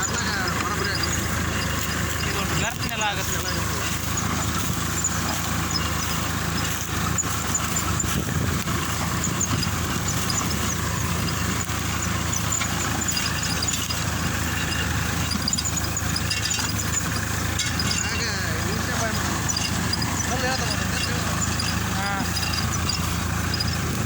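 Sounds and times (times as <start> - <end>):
faint high squeaks: 0.0 - 24.0
tractor diesel engine running: 0.0 - 24.0.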